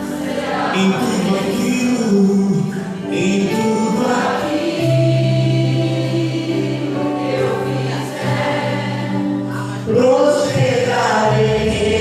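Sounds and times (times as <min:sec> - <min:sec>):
group singing gospel chant: 0:00.0 - 0:12.0
held accompaniment: 0:00.0 - 0:12.0.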